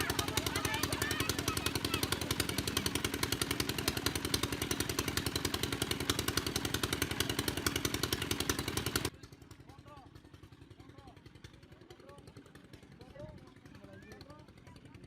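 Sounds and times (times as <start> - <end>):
water pump engine running: 0.0 - 15.0.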